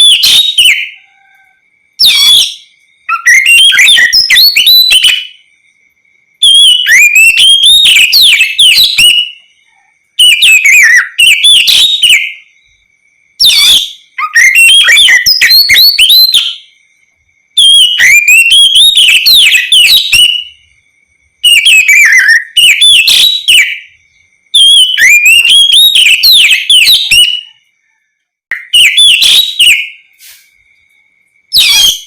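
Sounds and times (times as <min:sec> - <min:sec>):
bird singing whistled notes: 0:00.0 - 0:32.0.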